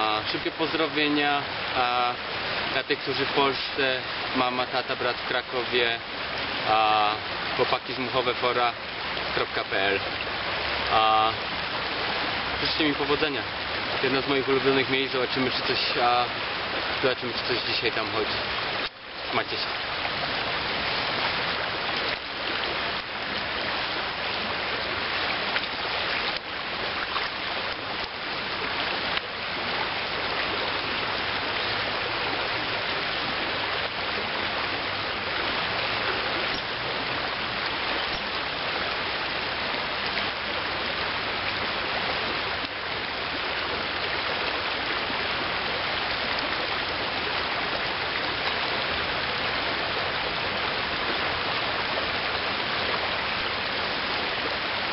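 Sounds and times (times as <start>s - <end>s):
river rushing over gravel: 0.0s - 54.9s.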